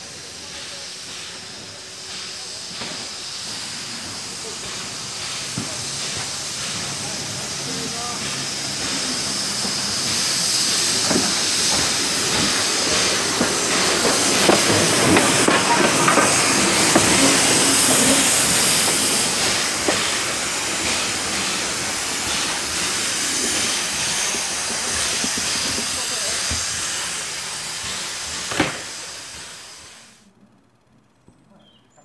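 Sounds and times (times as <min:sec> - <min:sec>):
steam hissing: 0:00.0 - 0:30.3
steam locomotive moving slowly: 0:00.0 - 0:32.0.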